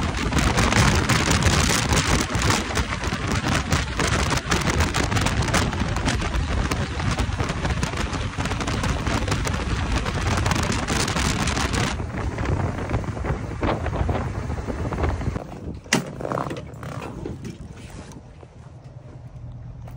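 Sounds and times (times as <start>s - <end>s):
wind rushing over microphone: 0.0s - 18.4s
motorcycle road and engine noise: 0.0s - 19.9s.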